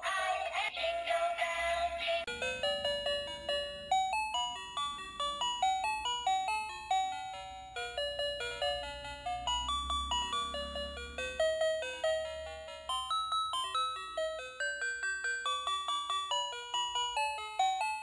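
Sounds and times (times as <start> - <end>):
toy electronic bell-like tune: 2.2 - 18.0.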